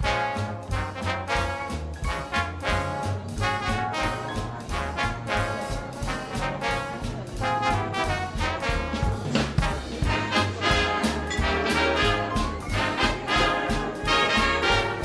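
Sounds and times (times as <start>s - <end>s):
upbeat brass band music: 0.0s - 15.0s.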